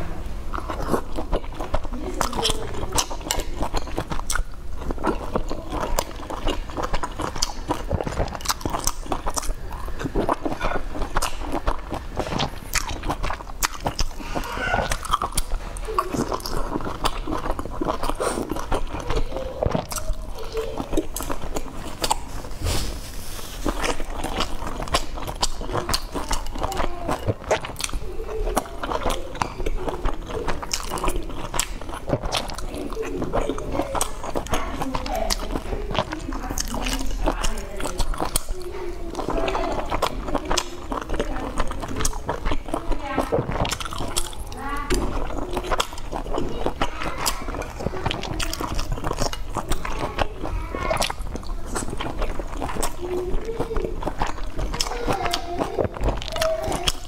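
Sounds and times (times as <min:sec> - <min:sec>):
wet chewing clicks and smacks: 0:00.4 - 0:22.5, 0:23.6 - 0:57.0.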